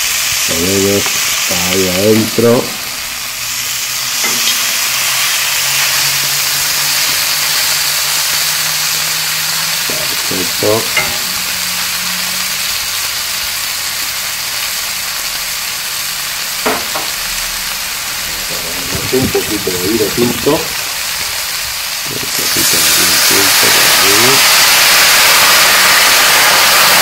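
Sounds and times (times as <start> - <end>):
meat and vegetables sizzling in skillet: 0.0 - 27.0.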